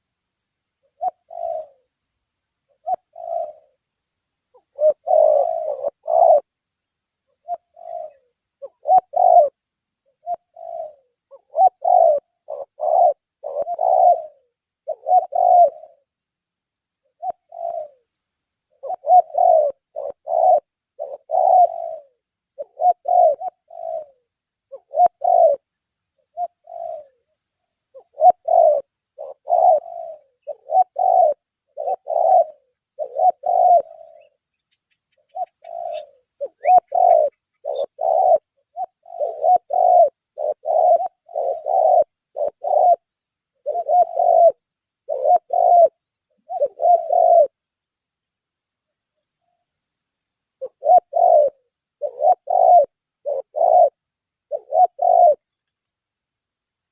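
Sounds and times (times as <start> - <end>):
doves cooing: 0.9 - 1.9, 2.7 - 3.8, 4.5 - 6.5, 7.3 - 16.1, 17.2 - 18.1, 18.7 - 25.6, 26.2 - 47.6, 50.6 - 55.4.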